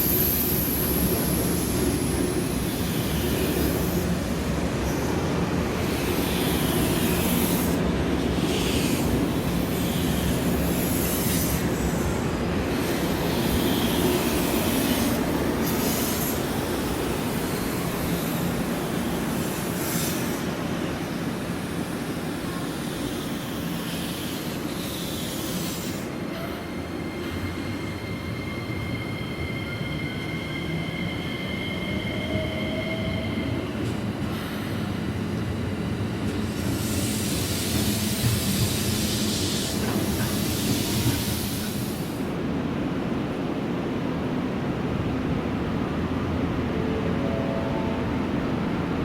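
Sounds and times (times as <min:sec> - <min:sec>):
train high squeal: 0:00.0 - 0:35.3, 0:36.4 - 0:42.3
train rumbling on rails: 0:00.0 - 0:49.0.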